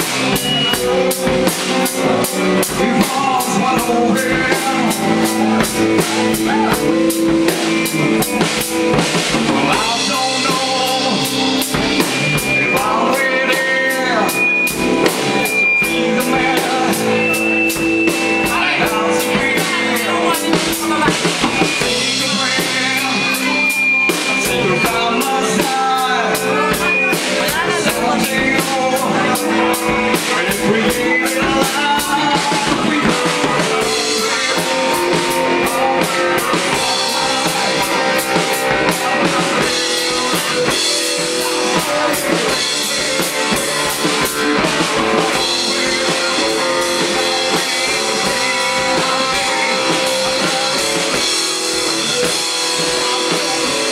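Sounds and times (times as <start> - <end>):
person singing: 0.0 - 53.9
rock band playing live: 0.0 - 53.9.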